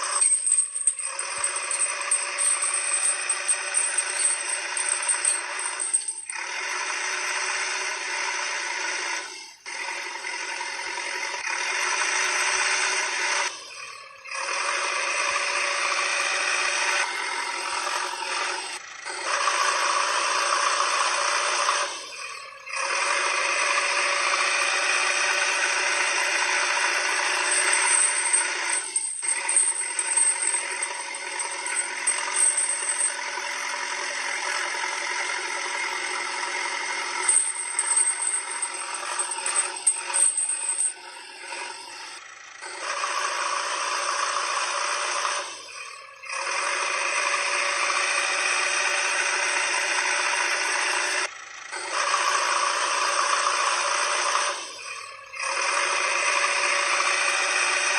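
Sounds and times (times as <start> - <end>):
toy vehicles rattling and scraping: 0.0 - 47.0, 48.0 - 57.9.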